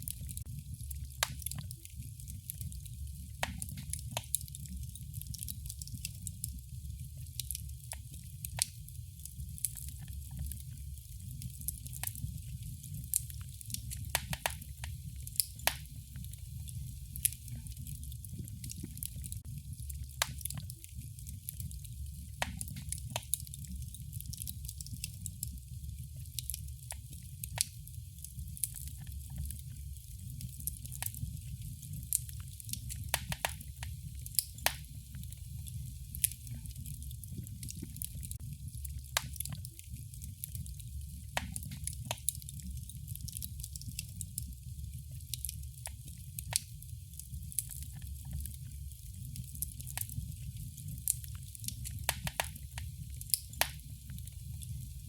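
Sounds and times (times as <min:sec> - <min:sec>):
fire pops and snaps: 0:00.0 - 0:55.0
wood fire crackling: 0:00.0 - 0:55.0.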